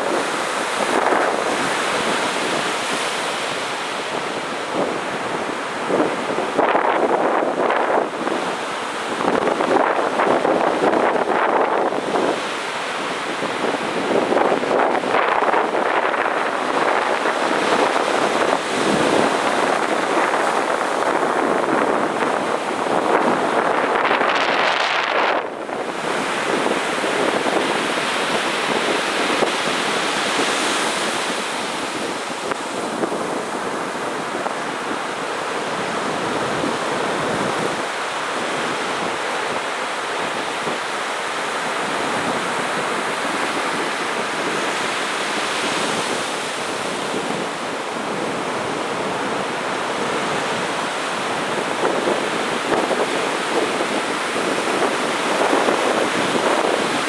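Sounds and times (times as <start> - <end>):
heavy surf breaking on beach: 0.0 - 57.0.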